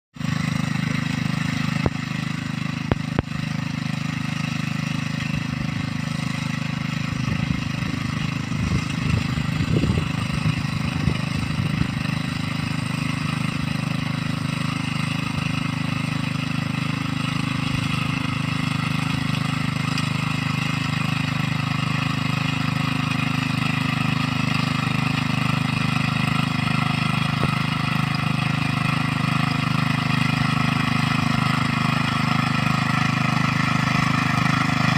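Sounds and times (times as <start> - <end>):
small engine running: 0.2 - 34.9.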